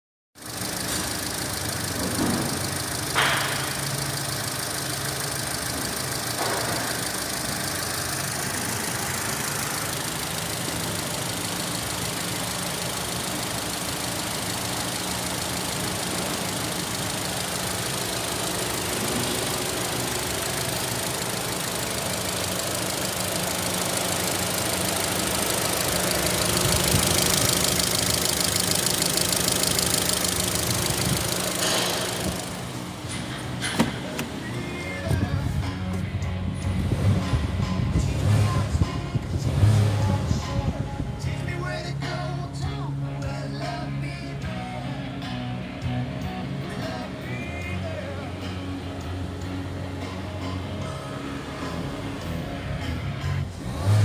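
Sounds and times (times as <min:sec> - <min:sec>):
car engine idling: 0:00.4 - 0:54.0.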